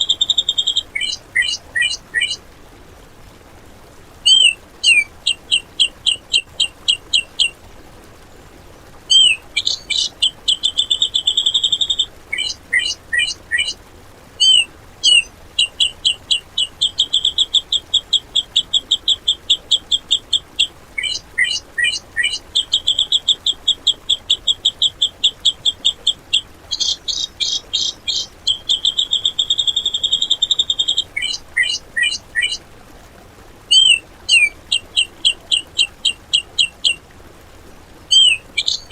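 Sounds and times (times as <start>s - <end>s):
bird singing rapid trills: 0.0s - 2.4s, 4.2s - 7.6s, 9.1s - 13.8s, 14.4s - 32.6s, 33.7s - 37.0s, 38.1s - 38.9s.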